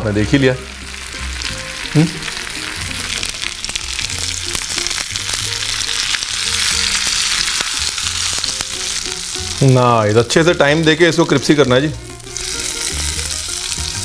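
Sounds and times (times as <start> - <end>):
pancake sizzling in hot oil: 0.1 - 14.0.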